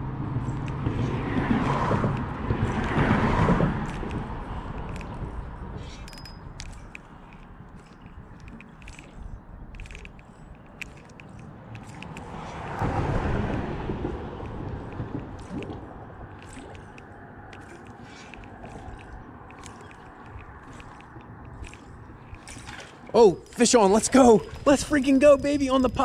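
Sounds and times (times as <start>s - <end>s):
fishing reel clicking: 3.8s - 13.7s, 14.4s - 26.0s.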